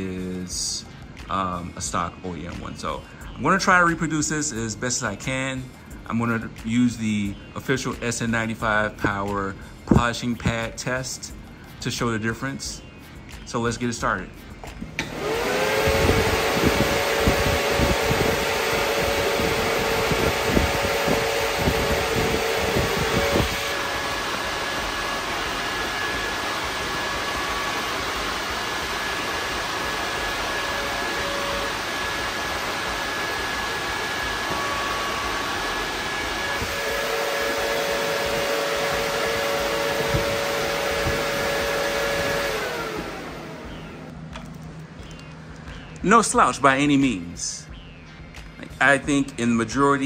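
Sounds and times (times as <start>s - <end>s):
electric radiator fans running: 0.0s - 50.0s
fans winding down: 0.0s - 50.0s.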